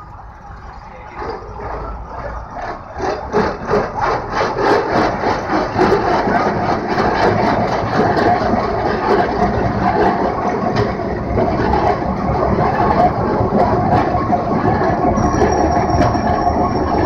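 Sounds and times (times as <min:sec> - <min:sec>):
tram rattling along track: 0:00.0 - 0:17.0
tram rumble: 0:00.0 - 0:17.0.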